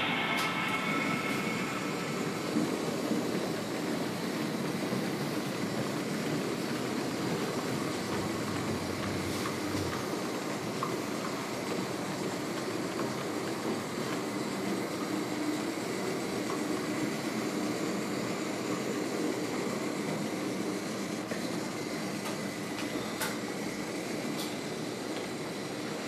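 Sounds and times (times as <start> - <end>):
model trains rolling on metal track: 0.0 - 26.0.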